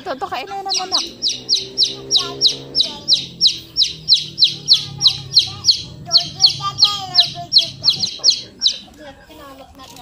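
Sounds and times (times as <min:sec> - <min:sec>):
small bird chirping: 0:00.4 - 0:09.1.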